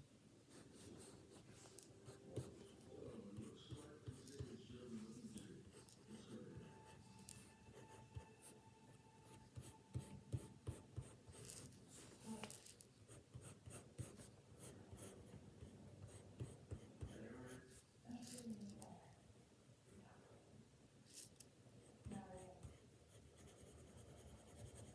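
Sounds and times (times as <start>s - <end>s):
pencil scratching on paper: 0.5s - 18.5s, 21.9s - 24.9s.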